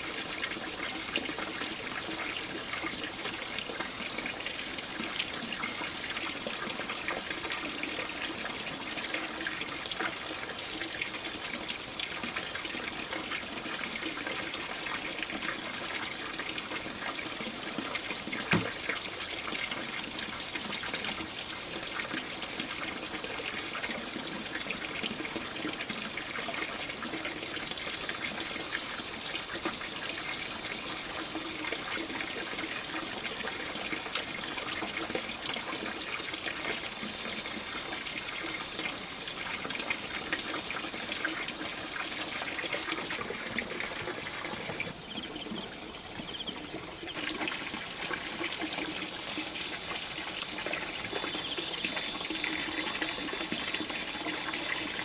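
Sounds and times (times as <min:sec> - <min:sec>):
water trickling and pouring: 0:00.0 - 0:55.0.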